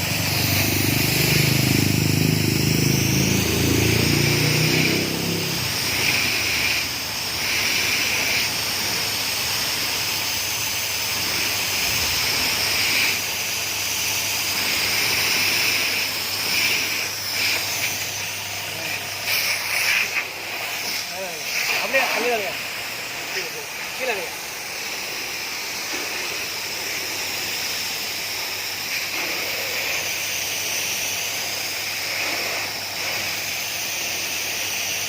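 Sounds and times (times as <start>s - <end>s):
high-pressure water jet hissing: 0.0s - 35.0s
pump motor hum: 0.0s - 35.0s.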